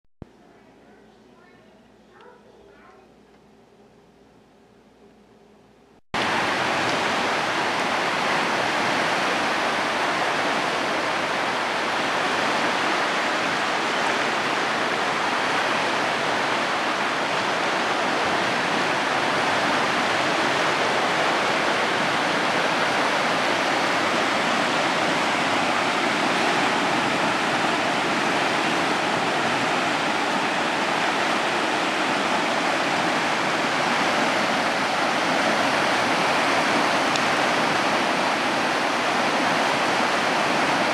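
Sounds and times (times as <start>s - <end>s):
floodwater rushing: 6.2s - 40.9s.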